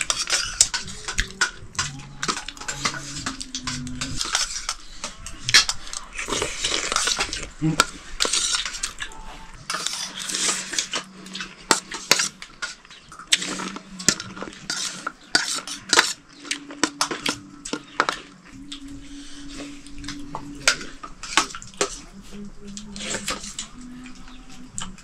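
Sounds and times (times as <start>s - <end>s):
faint low hum: 0.0s - 25.0s
utensils and dishes clinking: 0.0s - 25.0s.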